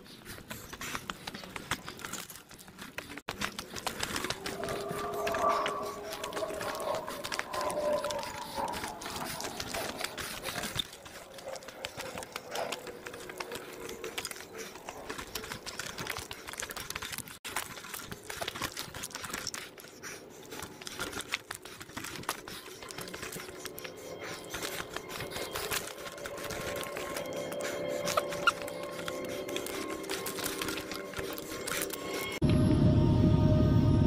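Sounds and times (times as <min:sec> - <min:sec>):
bike clicking and rattling: 0:00.0 - 0:32.4.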